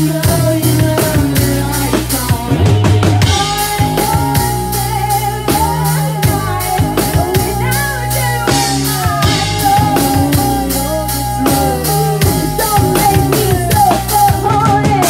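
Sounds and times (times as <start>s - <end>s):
drum kit: 0.0s - 15.0s
electric guitar: 0.0s - 15.0s
woman singing: 0.0s - 15.0s.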